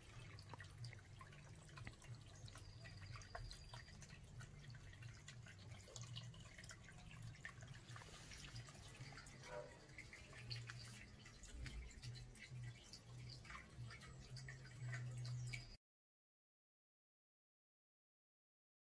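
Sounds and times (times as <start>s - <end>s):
low steady hum: 0.0s - 15.8s
water dripping into pond: 0.0s - 15.8s.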